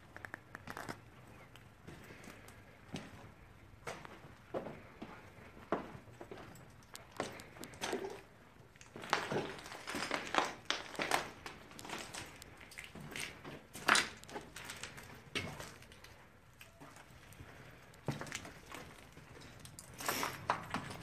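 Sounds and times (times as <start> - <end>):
footsteps crunching on debris: 1.8 - 21.0.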